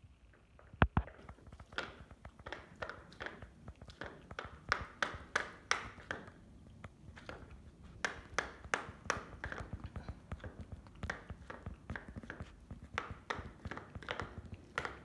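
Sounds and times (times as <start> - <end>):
cat licking and chewing: 0.8 - 15.0.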